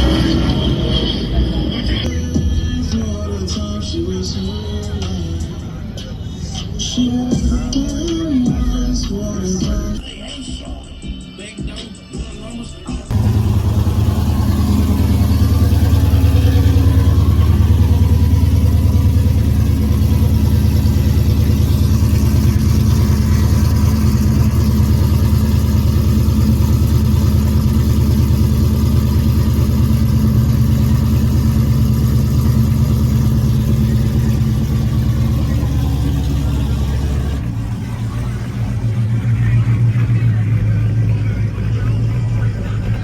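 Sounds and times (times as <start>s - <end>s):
car engine running loud: 0.0s - 8.2s, 13.1s - 43.0s.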